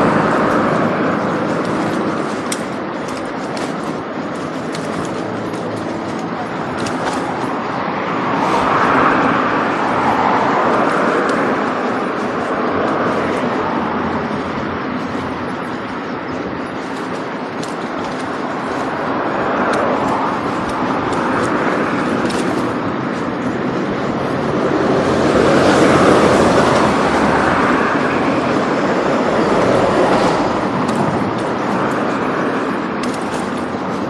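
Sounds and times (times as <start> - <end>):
rushing vehicle noise: 0.0 - 34.0.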